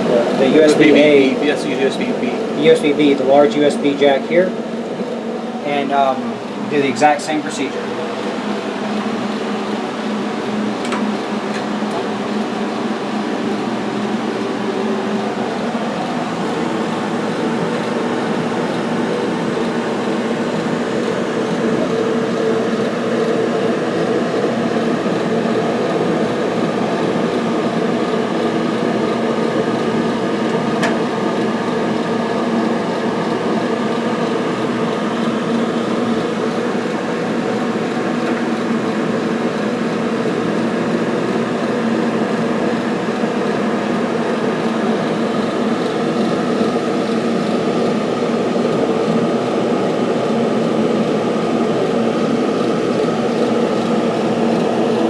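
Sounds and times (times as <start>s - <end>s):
fans humming: 0.0s - 55.0s.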